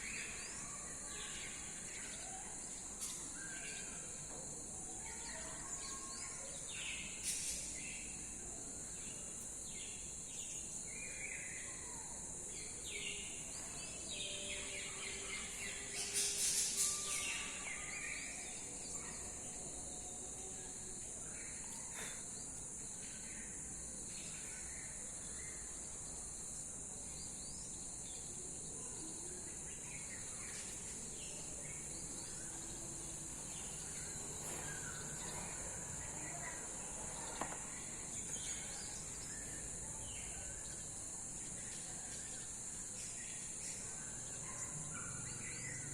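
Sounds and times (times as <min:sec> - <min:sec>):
crickets trilling: 0:00.0 - 0:45.9.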